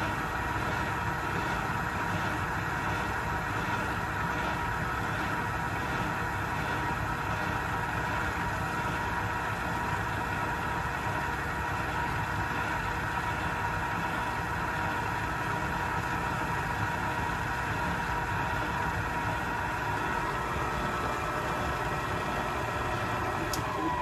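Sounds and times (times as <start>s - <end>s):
stand mixer motor whining: 0.0s - 24.0s.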